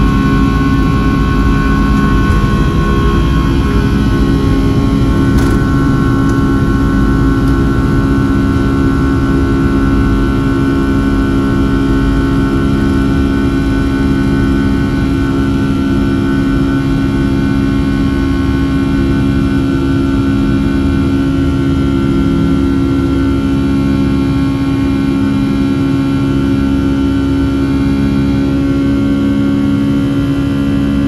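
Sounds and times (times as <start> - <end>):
jet engines at takeoff thrust: 0.0 - 31.0.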